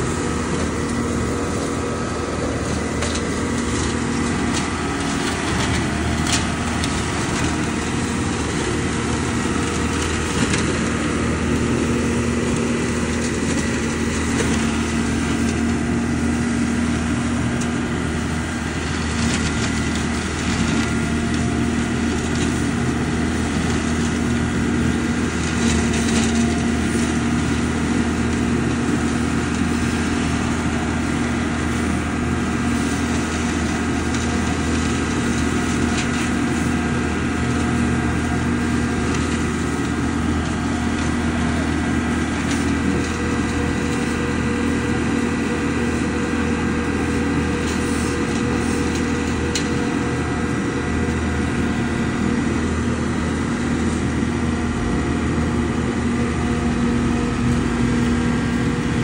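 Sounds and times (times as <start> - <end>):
leaves crackling: 0.0 - 53.8
leaf vacuum droning: 0.0 - 59.0.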